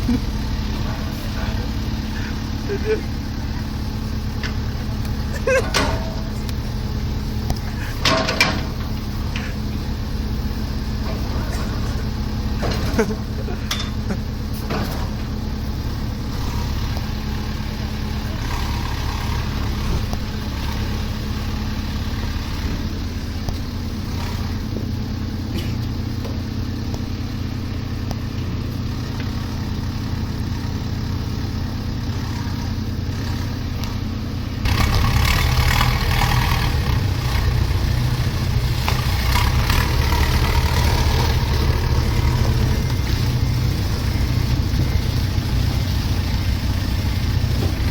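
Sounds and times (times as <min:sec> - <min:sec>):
construction machine engine running: 0:00.0 - 0:47.9.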